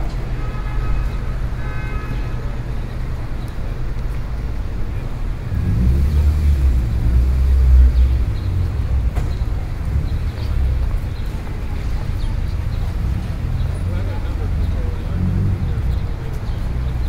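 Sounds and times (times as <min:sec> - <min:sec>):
low rumble of cars: 0:00.0 - 0:17.0.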